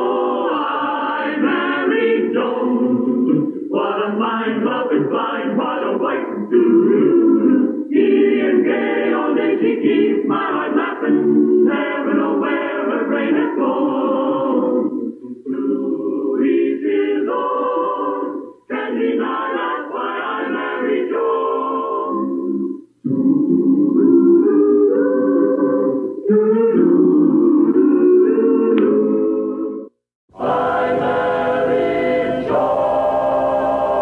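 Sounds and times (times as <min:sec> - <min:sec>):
choir singing theme song: 0:00.0 - 0:34.0.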